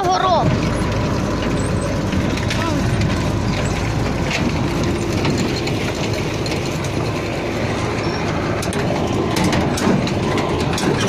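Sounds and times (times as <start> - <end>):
tractor engine running: 0.0 - 11.0
seed drill mechanical clatter: 0.2 - 11.0.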